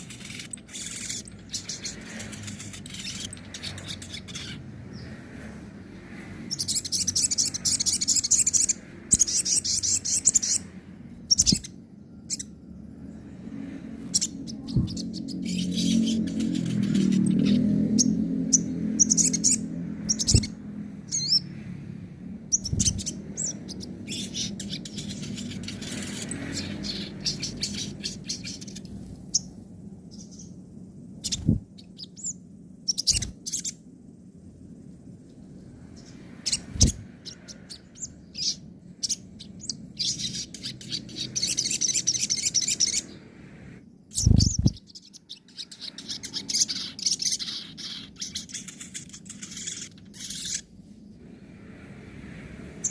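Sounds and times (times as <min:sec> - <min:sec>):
bird chirping and chattering: 0:00.0 - 0:12.6, 0:14.0 - 0:21.6, 0:22.4 - 0:33.9, 0:35.9 - 0:43.3, 0:44.0 - 0:50.8.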